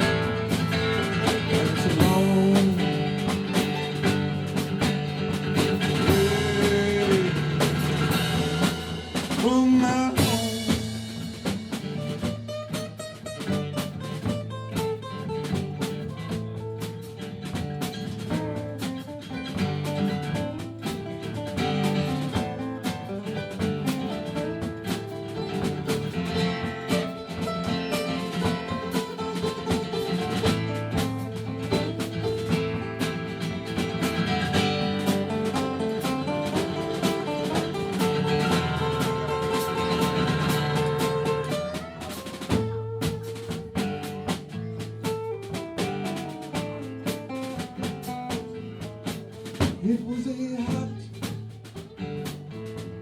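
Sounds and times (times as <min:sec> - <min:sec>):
country band playing: 0:00.0 - 0:53.0
steady drum beat: 0:00.0 - 0:53.0
strummed acoustic guitar: 0:00.0 - 0:53.0.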